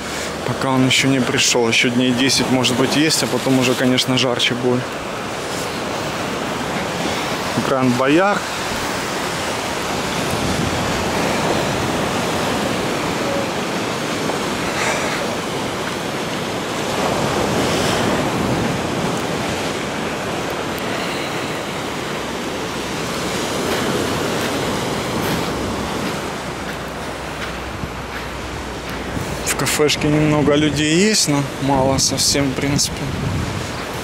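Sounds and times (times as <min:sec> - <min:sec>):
waves breaking on a sandy beach: 0:00.0 - 0:34.0.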